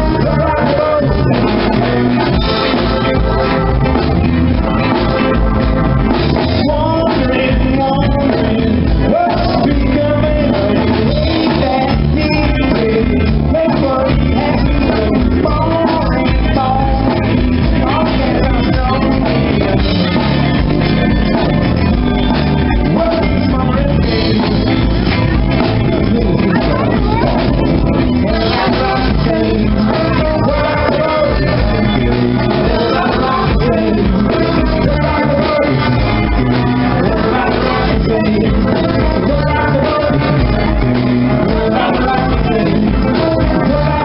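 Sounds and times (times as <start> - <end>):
drum kit: 0.0 - 44.0
electric guitars: 0.0 - 44.0
singer lead vocals: 0.0 - 44.0.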